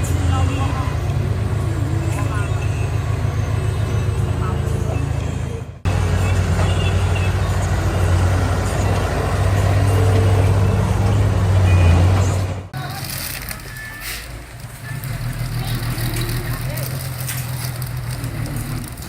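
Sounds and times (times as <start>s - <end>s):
heavy machine engine rumble: 0.0s - 19.0s.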